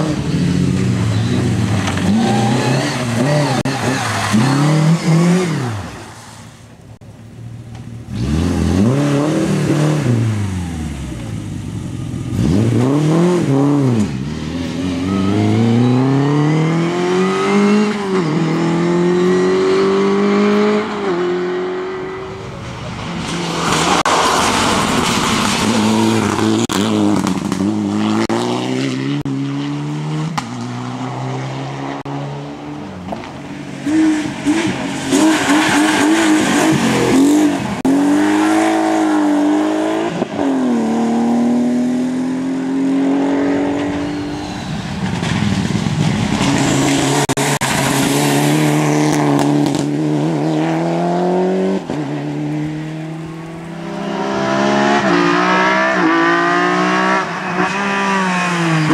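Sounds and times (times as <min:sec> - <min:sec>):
rally car engines revving: 0:00.0 - 0:06.4, 0:07.8 - 0:58.9.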